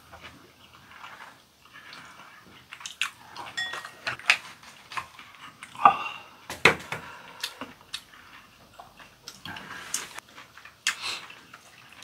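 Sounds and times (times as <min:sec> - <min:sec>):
chewing and wet mouth sounds: 0:00.0 - 0:06.4, 0:07.0 - 0:12.0.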